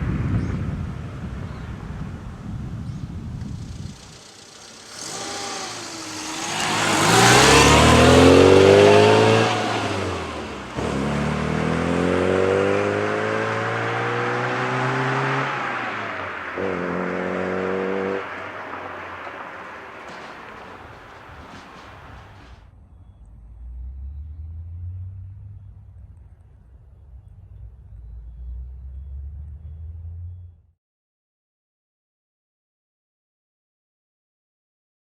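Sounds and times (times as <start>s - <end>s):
car engine accelerating: 2.2s - 30.6s.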